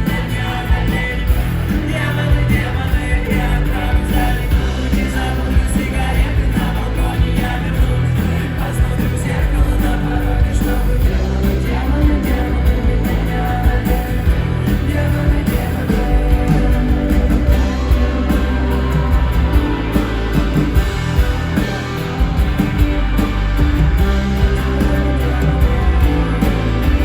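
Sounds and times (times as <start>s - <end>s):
acoustic guitar: 0.0s - 27.0s
person singing: 0.0s - 27.0s
steady bass: 0.0s - 27.0s.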